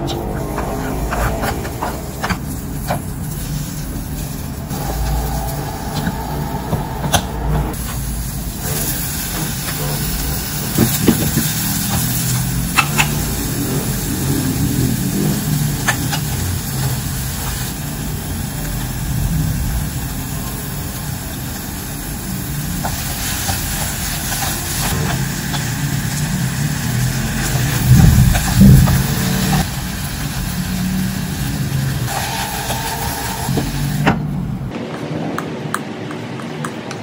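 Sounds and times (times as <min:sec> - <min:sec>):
construction machinery engine running: 0:00.0 - 0:37.0.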